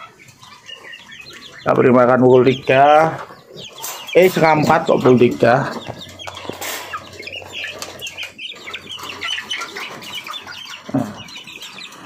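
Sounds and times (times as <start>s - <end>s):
chickens peeping and clucking: 0.0s - 12.0s.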